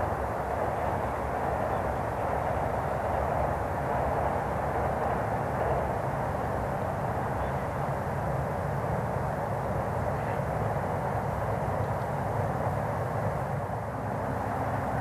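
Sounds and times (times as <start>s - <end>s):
distant electric train rumble: 0.0s - 15.0s.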